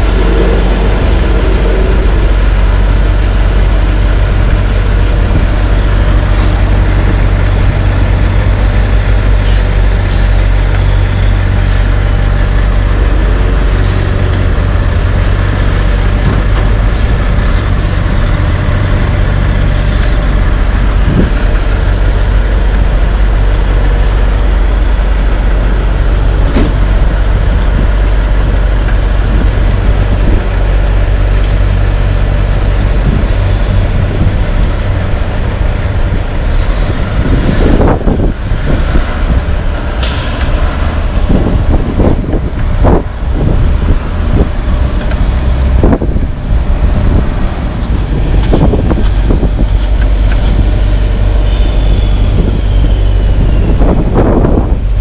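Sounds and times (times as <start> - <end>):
diesel truck engine rumbling: 0.0 - 55.0.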